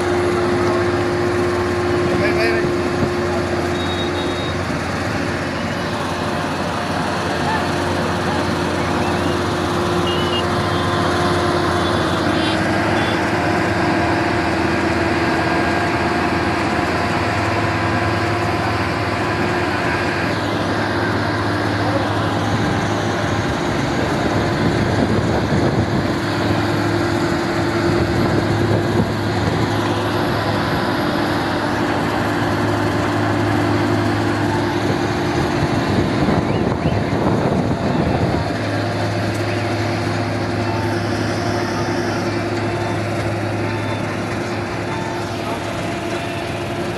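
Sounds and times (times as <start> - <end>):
diesel truck engines droning: 0.0 - 46.9.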